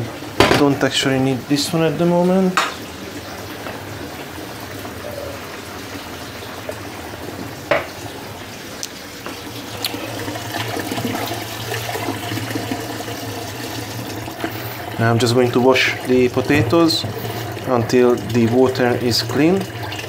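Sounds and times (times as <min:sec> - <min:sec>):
tap water running into bowl: 0:00.0 - 0:20.0.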